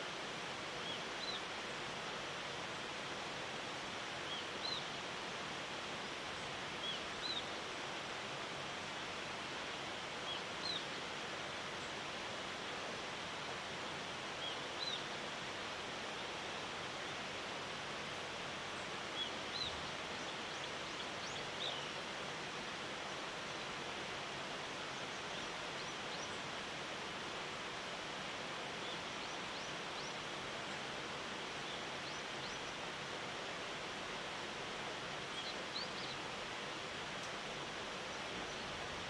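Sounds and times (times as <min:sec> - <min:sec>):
outdoor noise bed: 0:00.0 - 0:39.0.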